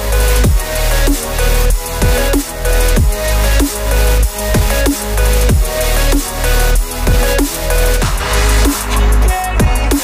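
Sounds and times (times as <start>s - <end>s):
electronic beat with sub-bass: 0.0s - 10.0s.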